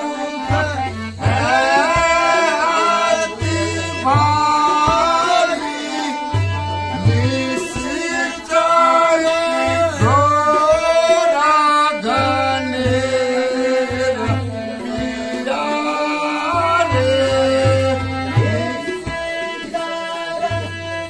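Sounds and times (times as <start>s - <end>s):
harmonium drone: 0.0s - 21.0s
low tabla strokes: 0.0s - 21.0s
man singing long held notes: 0.0s - 21.0s.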